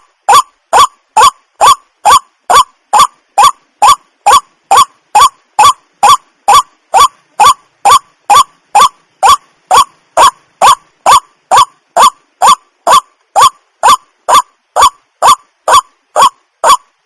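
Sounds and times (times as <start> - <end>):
waterhen calling: 0.0 - 16.8.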